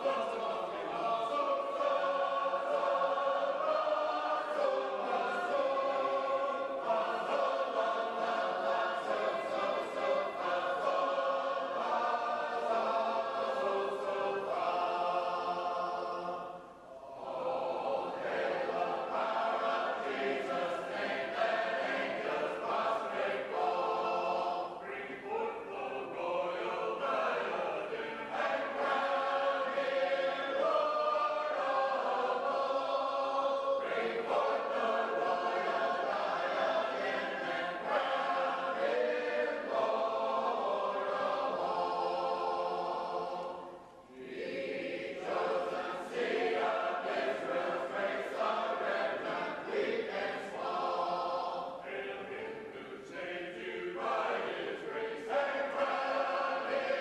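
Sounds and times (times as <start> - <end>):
choir singing a hymn a cappella: 0.0 - 57.0.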